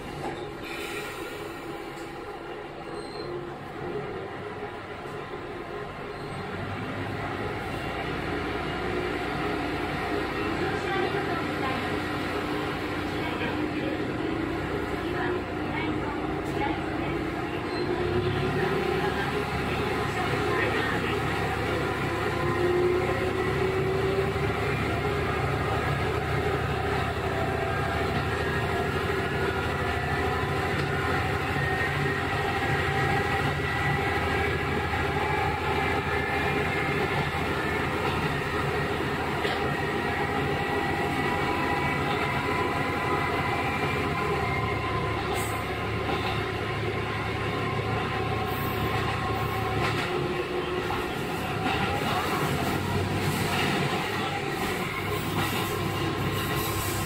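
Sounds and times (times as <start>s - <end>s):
diesel railcar engine drone: 0.0s - 57.0s.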